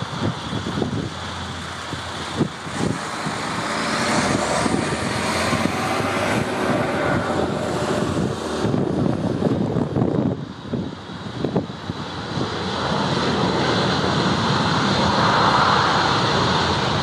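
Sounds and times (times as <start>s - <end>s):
jet engines running: 0.0s - 17.0s
rising engine whine: 0.0s - 17.0s
wind buffeting microphone: 0.0s - 17.0s.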